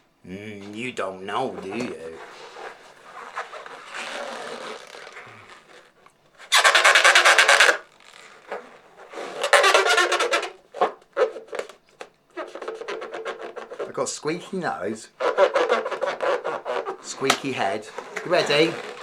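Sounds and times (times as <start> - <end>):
hands rubbing a balloon squeaking: 0.0 - 19.0.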